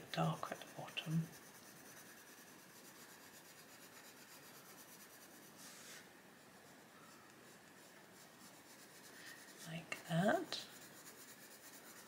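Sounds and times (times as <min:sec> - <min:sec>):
coloured pencil scratching paper: 0:00.0 - 0:12.0.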